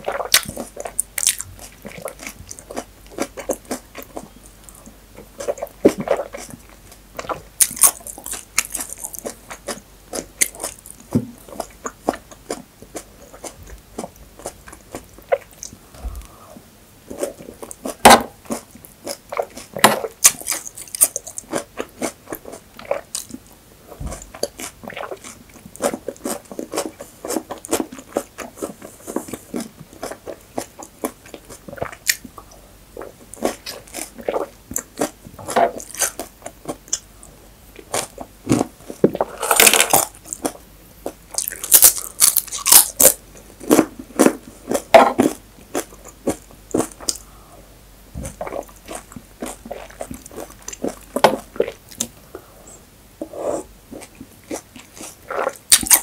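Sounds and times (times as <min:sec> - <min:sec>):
close chewing and crunching: 0:00.0 - 0:47.4, 0:48.2 - 0:52.2, 0:53.6 - 0:56.0.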